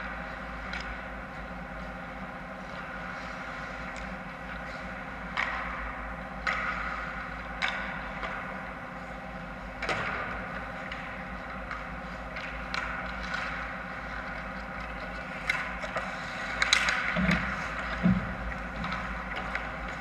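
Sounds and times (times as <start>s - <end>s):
hockey sticks and puck clacking: 2.6s - 8.8s, 9.4s - 20.0s.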